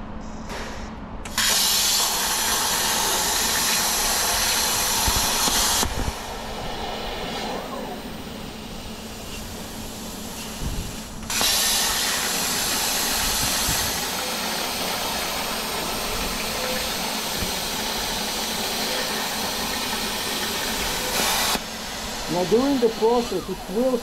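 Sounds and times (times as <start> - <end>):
plasma cutter hissing: 0.7 - 24.0.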